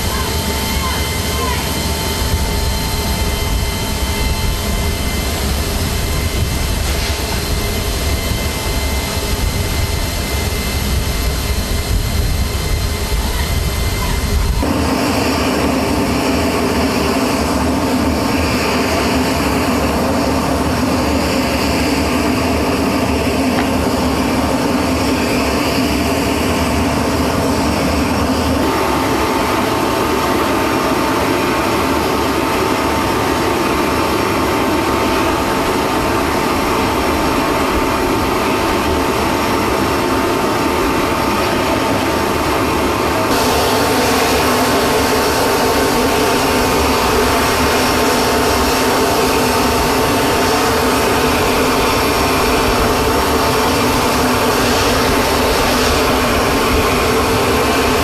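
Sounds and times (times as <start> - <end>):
aircraft turbine whine: 0.0 - 58.0.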